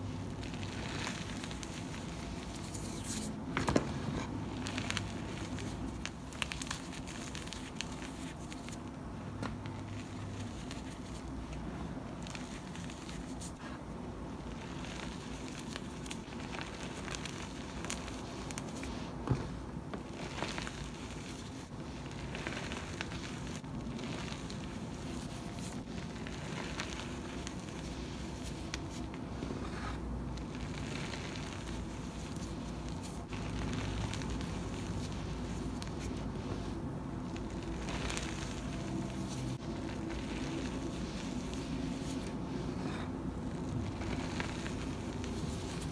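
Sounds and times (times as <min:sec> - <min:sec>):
dry powder crackling and crunching: 0:00.0 - 0:45.9.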